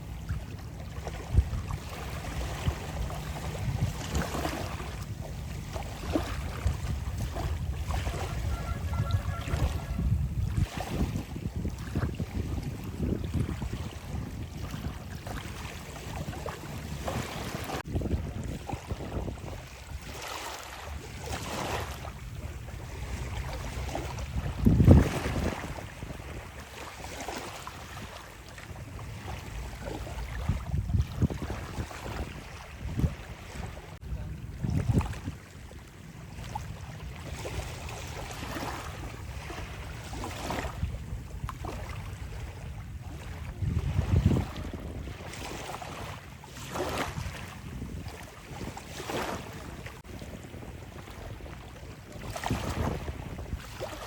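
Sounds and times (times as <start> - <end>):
waves washing onto beach: 0.0 - 54.0
wind buffeting microphone: 0.0 - 54.0.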